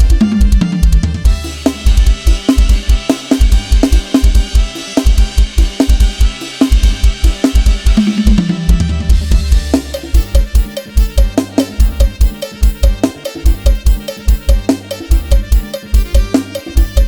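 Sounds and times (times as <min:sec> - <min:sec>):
bass notes: 0:00.0 - 0:17.0
kick drum beat: 0:00.0 - 0:17.0.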